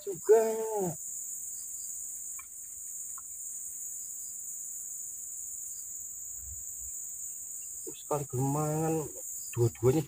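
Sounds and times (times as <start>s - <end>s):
crickets chirping chorus: 0.0s - 10.0s.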